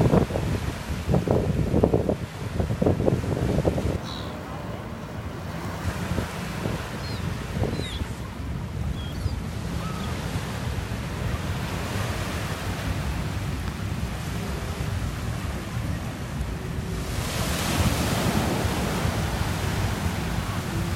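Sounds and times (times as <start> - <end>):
small waves breaking on shore: 0.0 - 20.9
wind buffeting microphone: 0.0 - 20.9.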